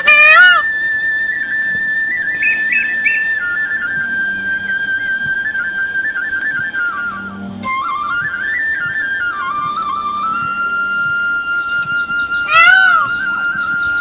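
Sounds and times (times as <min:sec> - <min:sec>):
high whistle-like melody: 0:00.0 - 0:14.0.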